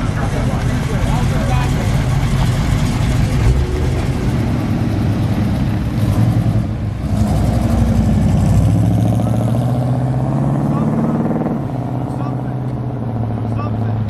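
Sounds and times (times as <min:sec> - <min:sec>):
car engine running steadily: 0:00.0 - 0:10.9, 0:11.6 - 0:14.0
car engine rumbling: 0:00.0 - 0:14.0.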